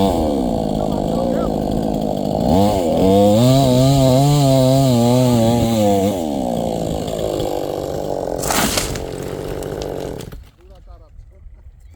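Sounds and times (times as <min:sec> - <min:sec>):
chainsaw engine revving: 0:00.0 - 0:10.6.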